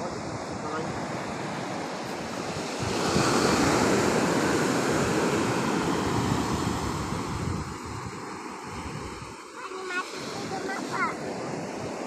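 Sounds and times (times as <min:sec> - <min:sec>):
surf washing onto shore: 0:00.0 - 0:12.0.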